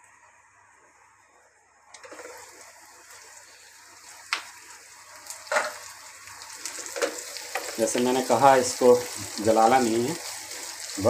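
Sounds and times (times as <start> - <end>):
onions sizzling in oil: 2.0 - 11.0.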